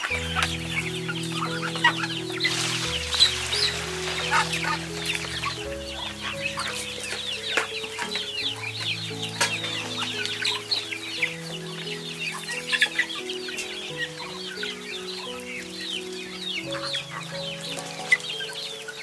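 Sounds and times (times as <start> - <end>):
ducklings and chicks peeping: 0.0 - 19.0
soft background music: 0.0 - 19.0.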